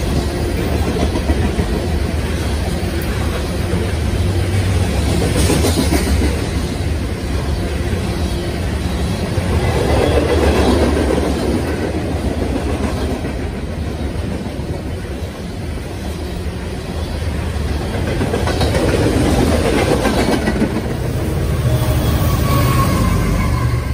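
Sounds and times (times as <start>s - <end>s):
diesel locomotive engine rumble: 0.0s - 23.9s
train wheels clattering on rails: 0.0s - 23.9s.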